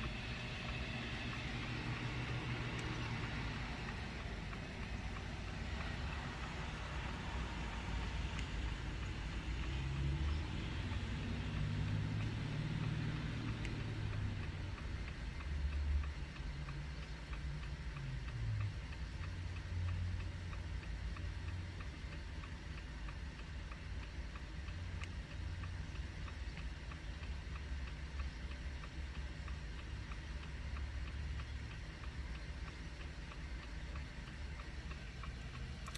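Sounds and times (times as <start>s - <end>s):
hazard-light flasher ticking: 0.0s - 35.9s
low steady hum: 0.0s - 35.9s.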